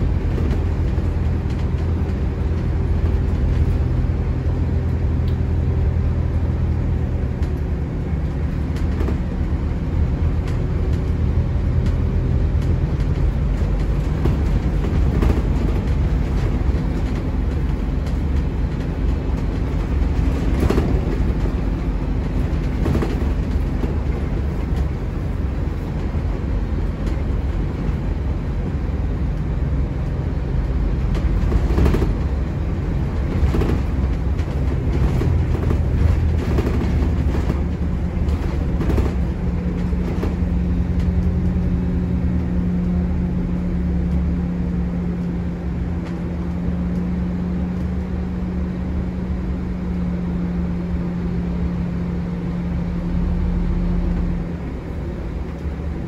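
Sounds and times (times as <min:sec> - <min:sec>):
body rattles and knocks: 0:00.0 - 0:48.8
bus diesel engine: 0:00.0 - 0:56.0
road rumble: 0:00.0 - 0:56.0.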